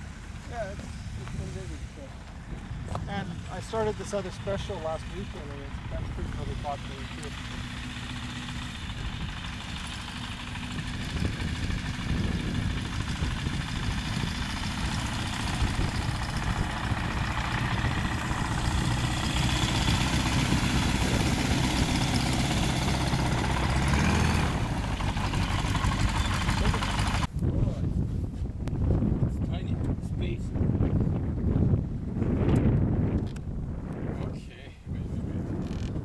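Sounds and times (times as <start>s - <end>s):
propeller aircraft engine running: 0.0s - 36.0s.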